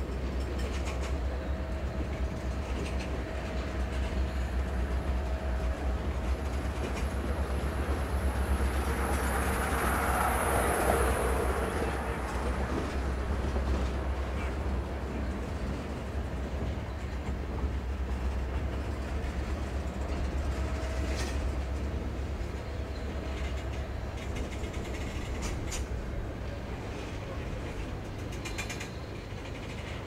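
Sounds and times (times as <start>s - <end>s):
freight train rumbling on rails: 0.0s - 30.0s.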